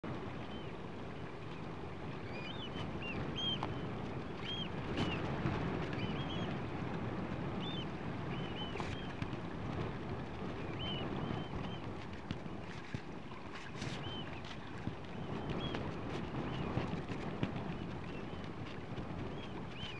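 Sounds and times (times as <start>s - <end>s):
choppy sea: 0.0s - 19.9s.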